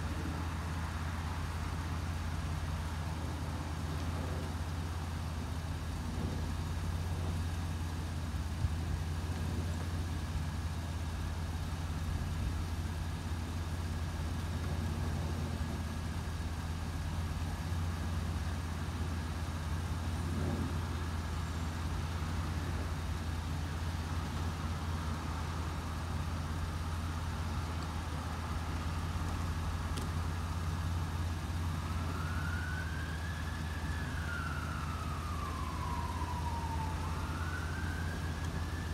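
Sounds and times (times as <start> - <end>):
emergency vehicle siren: 0.0 - 5.3, 5.9 - 38.9
low rumble of road traffic: 0.0 - 38.9.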